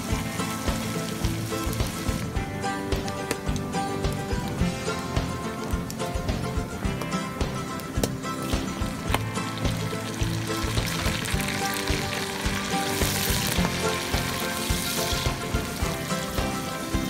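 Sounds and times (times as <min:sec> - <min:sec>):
background music with a beat: 0:00.0 - 0:17.0
tomatoes sizzling in hot oil: 0:00.0 - 0:17.0.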